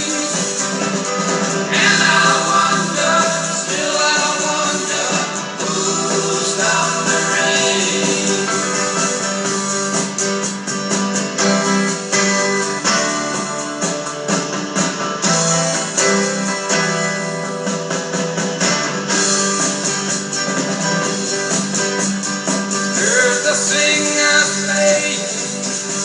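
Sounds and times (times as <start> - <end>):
steady drum beat: 0.0 - 26.0
strummed rock guitars: 0.0 - 26.0.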